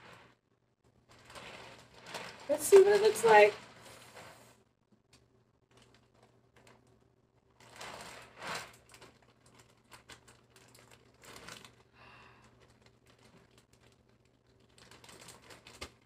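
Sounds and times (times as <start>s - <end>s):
plastic bag crinkling: 1.0s - 4.5s, 5.7s - 16.0s.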